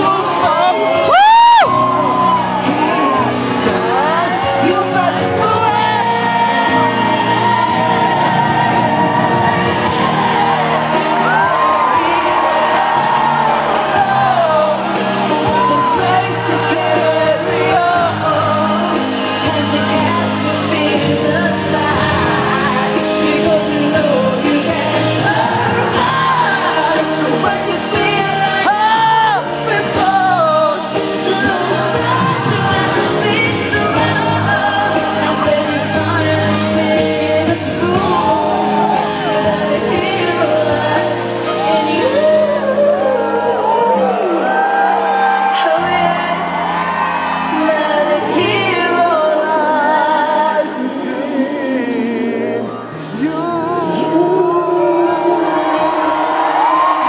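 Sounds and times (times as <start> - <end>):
audience shouting and whooping: 0.0 - 21.1, 21.8 - 49.5, 54.0 - 57.0
full band playing: 0.0 - 57.0
woman singing: 0.0 - 57.0.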